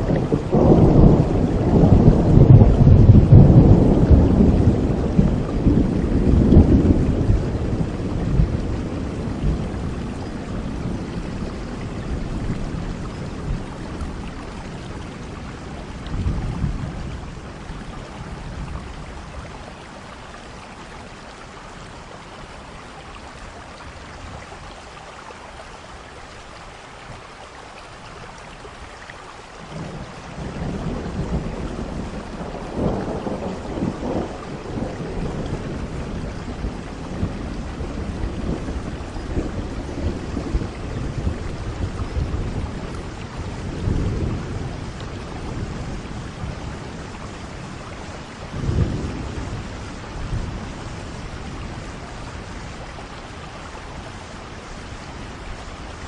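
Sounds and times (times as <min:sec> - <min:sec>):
rolling thunder rumble: 0:00.0 - 0:20.0, 0:29.7 - 0:56.0
steady rain falling: 0:00.0 - 0:56.0.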